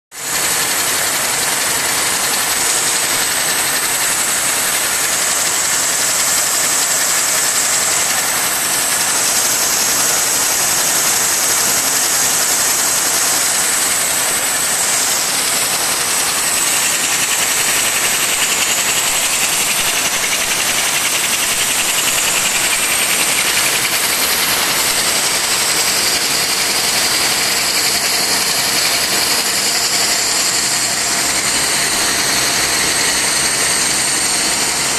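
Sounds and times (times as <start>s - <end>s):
folding machine running: 0.2s - 34.9s.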